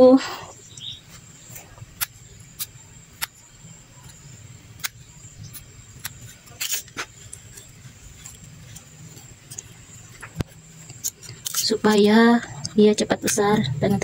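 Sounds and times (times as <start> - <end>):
steady low hum: 0.0 - 14.0
leaves being handled: 1.0 - 14.0
scissors snipping leaves: 1.2 - 14.0.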